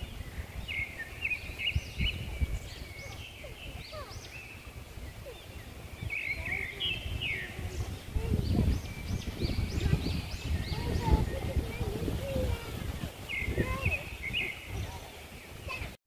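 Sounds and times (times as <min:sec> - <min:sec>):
birds chirping: 0:00.0 - 0:16.0
wind rumble on microphone: 0:00.0 - 0:16.0.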